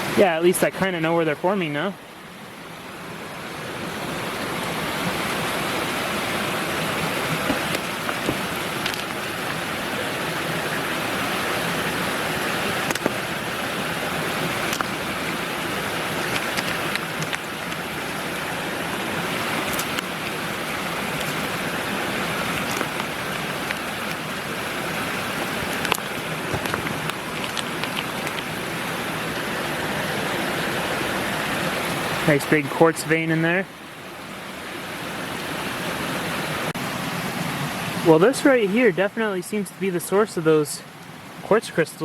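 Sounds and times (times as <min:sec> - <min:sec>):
creek water rushing: 0:00.0 - 0:42.0.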